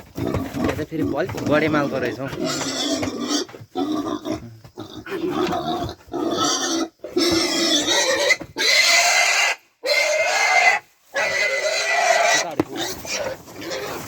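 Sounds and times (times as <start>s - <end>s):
young pig squealing: 1.8s - 14.0s.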